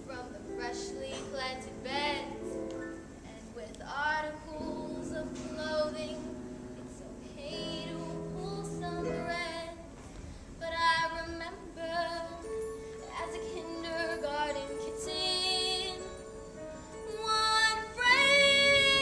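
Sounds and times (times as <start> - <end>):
young female voice singing: 0.0 - 10.0, 10.6 - 16.2, 17.0 - 19.0.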